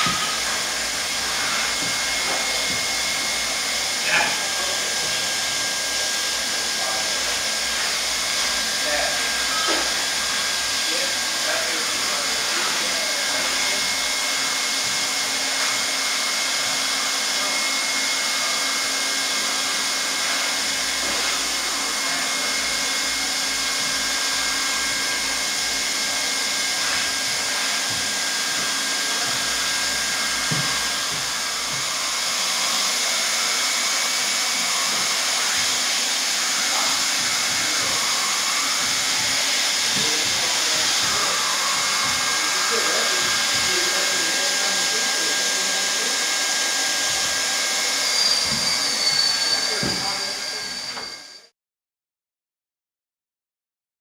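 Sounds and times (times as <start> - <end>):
hot-air welding gun blower hissing: 0.0 - 51.2.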